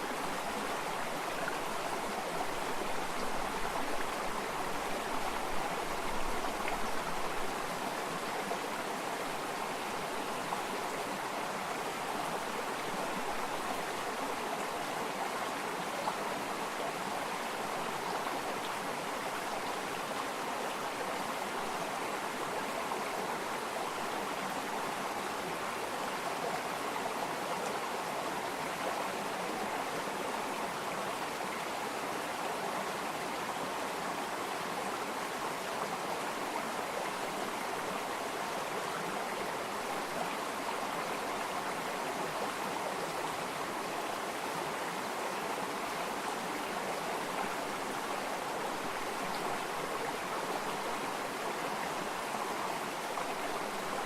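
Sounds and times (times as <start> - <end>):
running water babbling: 0.0 - 54.0.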